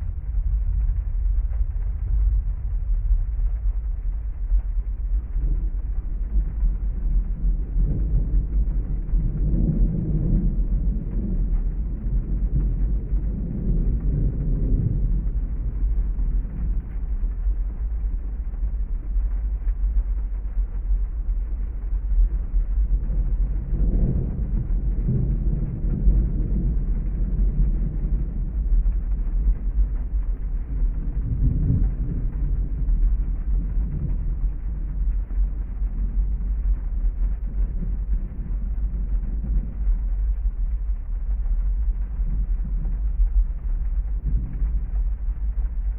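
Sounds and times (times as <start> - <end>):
heavy rain: 0.0 - 45.9
low rumble of thunder: 0.0 - 45.9.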